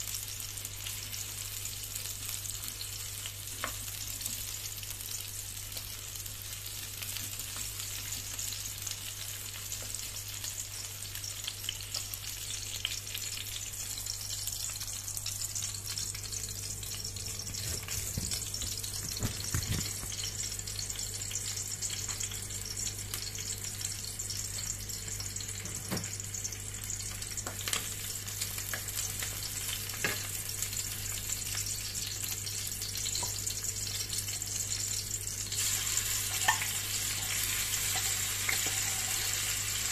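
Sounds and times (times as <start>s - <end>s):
onions sizzling in hot oil: 0.0s - 39.9s.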